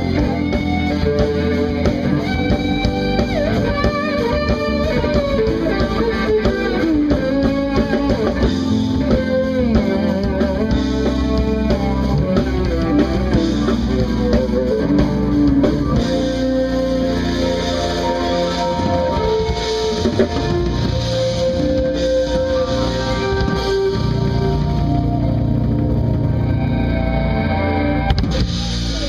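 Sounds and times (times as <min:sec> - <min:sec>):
bass guitar: 0:00.0 - 0:29.0
drum kit: 0:00.0 - 0:29.0
electric guitar with bent notes: 0:00.0 - 0:29.0
jazz fusion band playing: 0:00.0 - 0:29.0.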